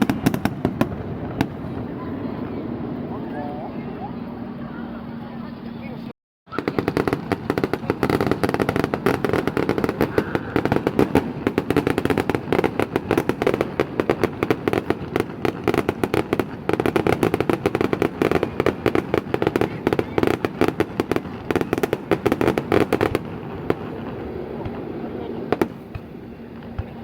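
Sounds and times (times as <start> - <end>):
fireworks crackling: 0.0 - 4.0, 6.5 - 27.0.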